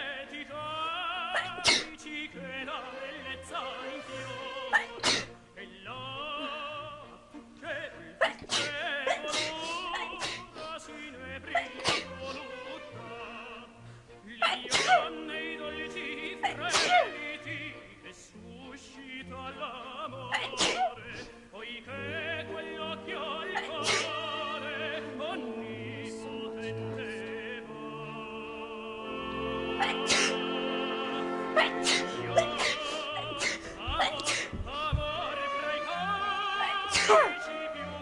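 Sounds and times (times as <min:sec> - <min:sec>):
operatic singing with vibrato: 0:00.0 - 0:38.0.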